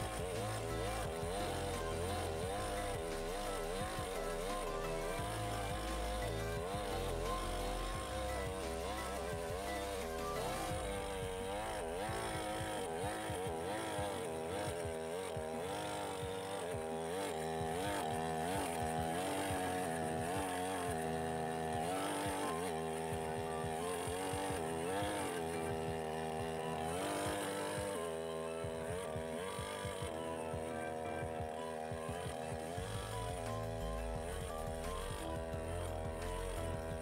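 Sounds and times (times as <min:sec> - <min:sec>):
chainsaw cutting log: 0:00.0 - 0:37.0.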